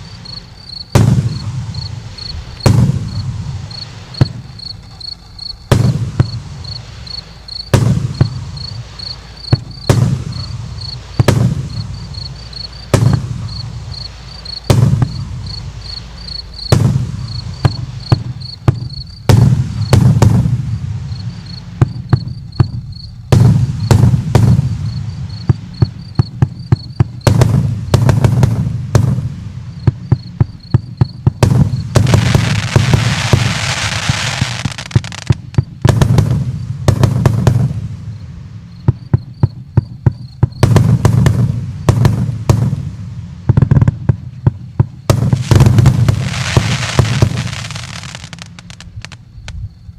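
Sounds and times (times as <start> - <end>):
fireworks launch thumps and bursts: 0.0 - 49.7
rapid volleys of fireworks bangs: 0.0 - 49.7
fireworks crackling hiss: 0.0 - 49.9.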